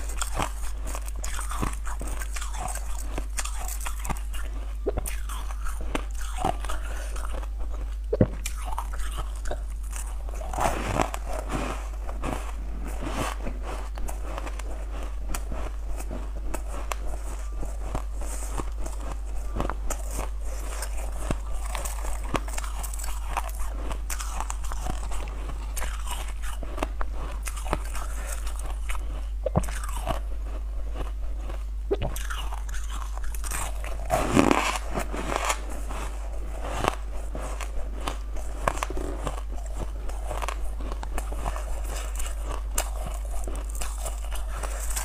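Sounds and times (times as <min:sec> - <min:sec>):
ice cubes being chewed: 0:00.0 - 0:45.0.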